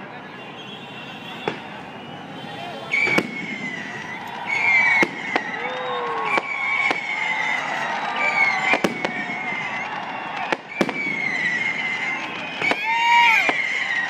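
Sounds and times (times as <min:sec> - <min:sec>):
fireworks bursting with sharp bangs: 0:00.6 - 0:14.0
high whistling tones: 0:00.6 - 0:14.0.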